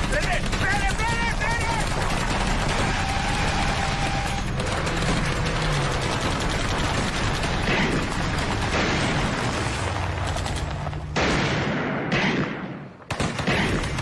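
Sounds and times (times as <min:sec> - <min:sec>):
automatic gunfire: 0:00.0 - 0:09.5, 0:11.2 - 0:14.0.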